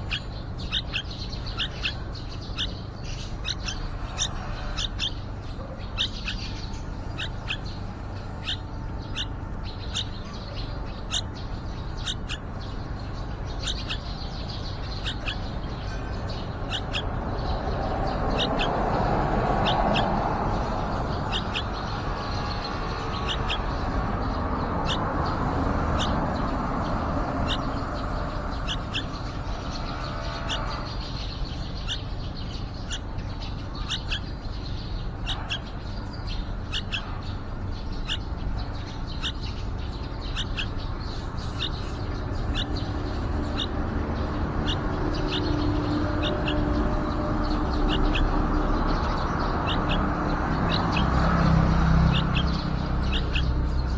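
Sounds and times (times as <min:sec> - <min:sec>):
bird chicks chirping: 0:00.0 - 0:53.9.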